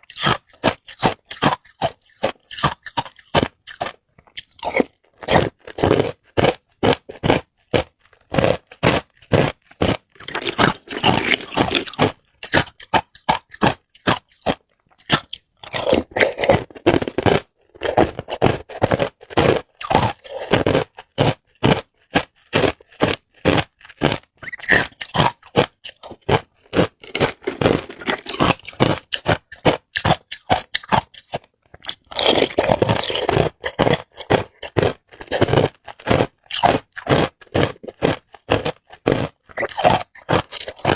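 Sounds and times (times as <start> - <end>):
ice cubes being chewed: 0.0 - 40.9.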